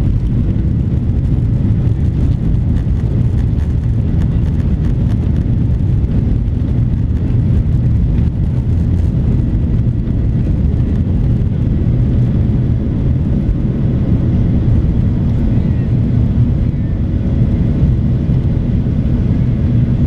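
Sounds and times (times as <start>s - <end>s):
airliner engines rumbling: 0.0s - 20.0s.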